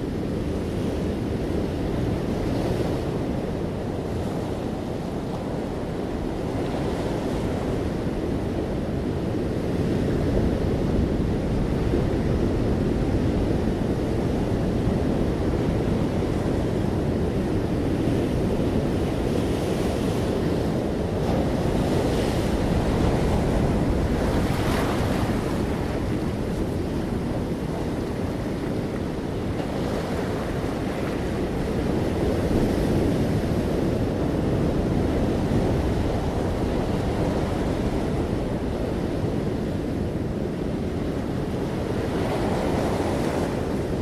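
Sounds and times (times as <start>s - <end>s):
ocean waves breaking on beach: 0.0s - 44.0s.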